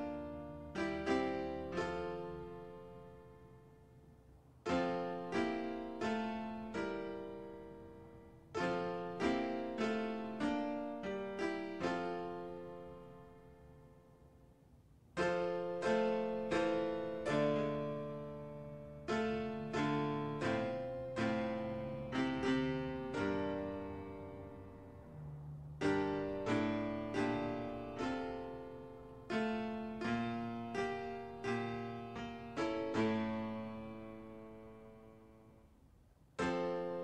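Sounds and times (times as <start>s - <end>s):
slow piano chords: 0.0s - 37.0s.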